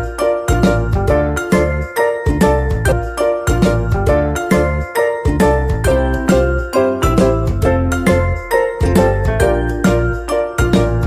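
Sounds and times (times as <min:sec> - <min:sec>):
tinkling melody with bass and beat: 0:00.0 - 0:11.0.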